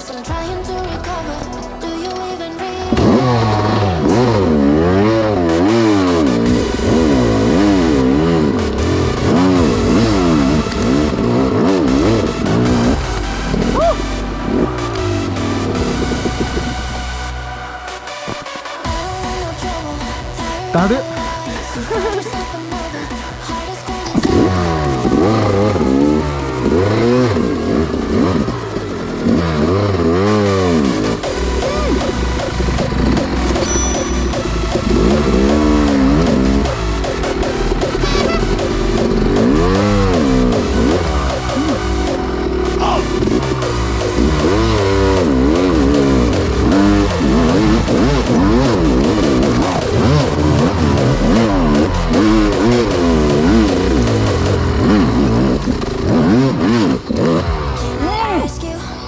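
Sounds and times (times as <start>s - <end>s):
two-stroke engine revving: 2.8s - 58.2s.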